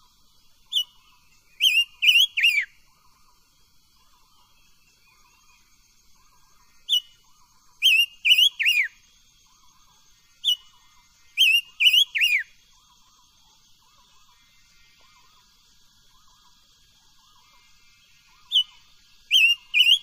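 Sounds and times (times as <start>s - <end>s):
bird singing whistled notes: 0.0s - 20.0s
faint repeating chirp: 0.0s - 20.0s.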